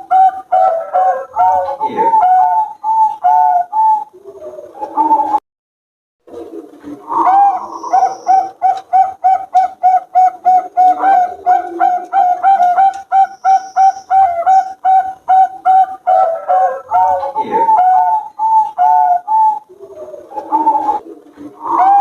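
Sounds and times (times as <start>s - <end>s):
doves cooing: 0.0s - 5.4s, 6.3s - 22.0s
lower dove cooing: 0.0s - 5.4s, 6.3s - 22.0s.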